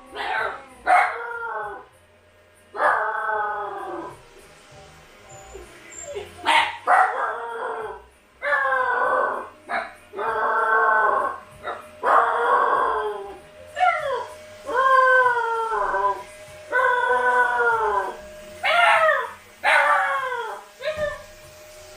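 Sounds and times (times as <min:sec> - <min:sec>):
puppies howling: 0:00.0 - 0:02.0, 0:02.7 - 0:04.3, 0:05.2 - 0:21.4.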